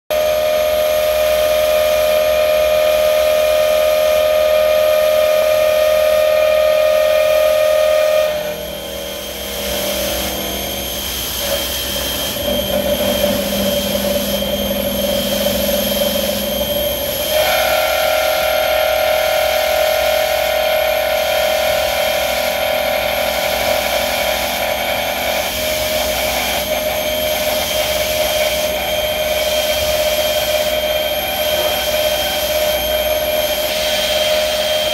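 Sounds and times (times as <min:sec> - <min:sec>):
milling machine whine: 0:00.1 - 0:34.9.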